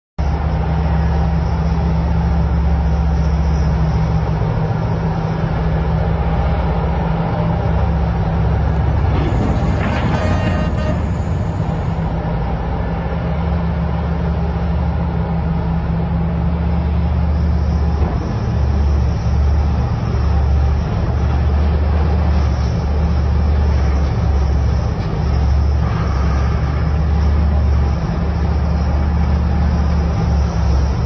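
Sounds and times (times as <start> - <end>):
heavy machinery engine drone: 0.2 - 31.0.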